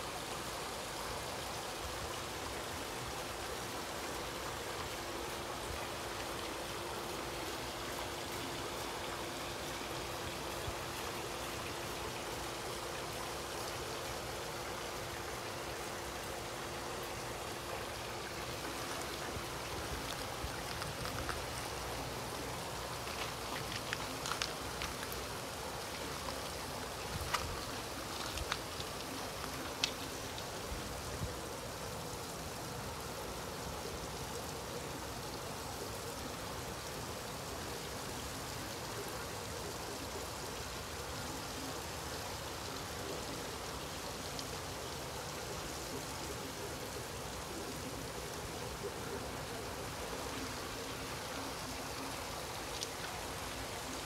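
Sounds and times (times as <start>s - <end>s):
sharp water drips: 0.0s - 34.2s, 40.3s - 54.0s
steady rain: 0.0s - 54.0s
water trickling over pebbles: 0.0s - 54.0s.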